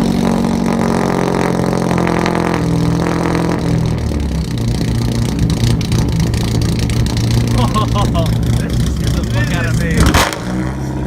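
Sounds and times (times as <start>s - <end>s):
loud car engine idling: 0.0s - 11.0s.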